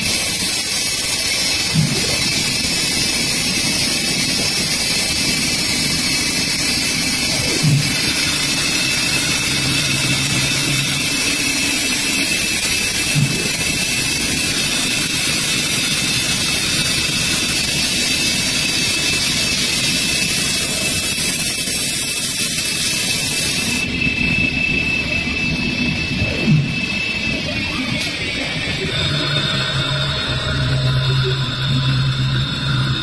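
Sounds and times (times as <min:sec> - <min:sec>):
wood turning lathe whirring: 0:00.0 - 0:33.0.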